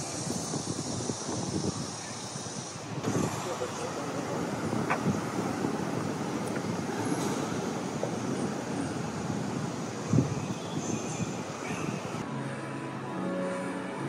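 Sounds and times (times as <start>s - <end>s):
city traffic noise: 0.0s - 14.0s.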